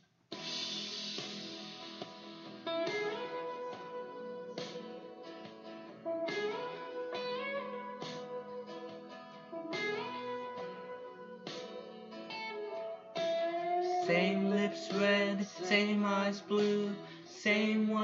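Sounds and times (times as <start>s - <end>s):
plucked and strummed guitar: 0.3s - 18.0s.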